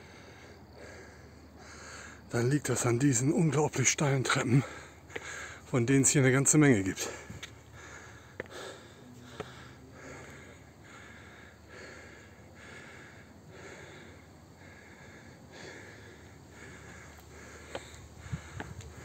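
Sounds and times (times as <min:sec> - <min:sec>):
man panting heavily: 0:00.0 - 0:02.3, 0:04.4 - 0:05.7, 0:07.0 - 0:19.0.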